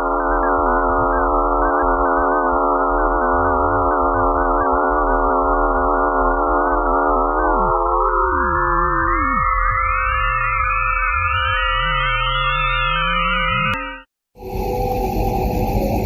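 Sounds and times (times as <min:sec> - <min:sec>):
dense electronic drone: 0:00.0 - 0:13.8, 0:14.4 - 0:16.0.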